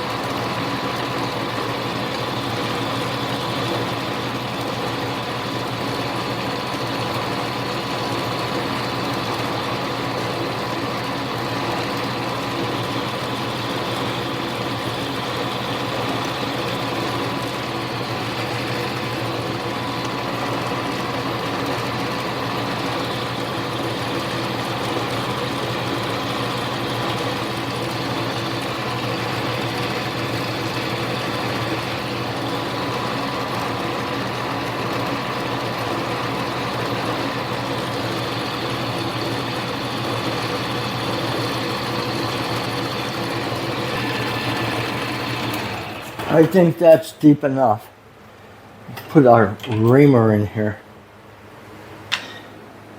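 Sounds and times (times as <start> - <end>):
metal lathe motor hum: 0.0 - 47.0.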